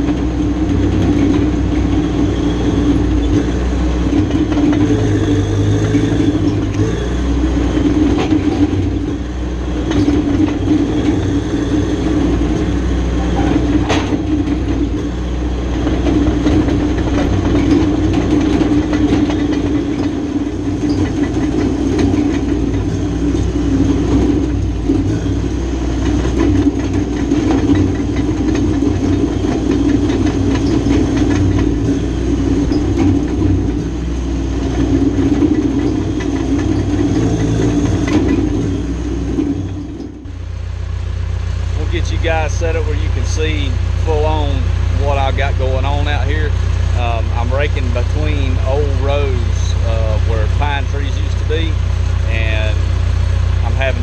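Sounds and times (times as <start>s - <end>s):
steel tracks clanking: 0.0s - 40.4s, 41.8s - 53.0s
diesel engine under load: 0.0s - 54.0s.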